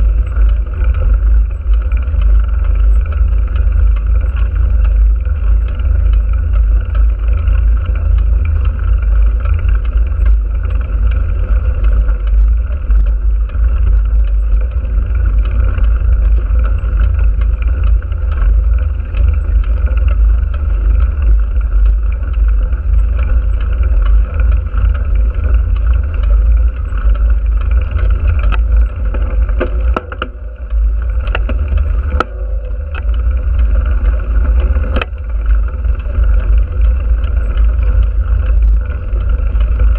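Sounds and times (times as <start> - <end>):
vehicle drone: 0.0 - 39.9.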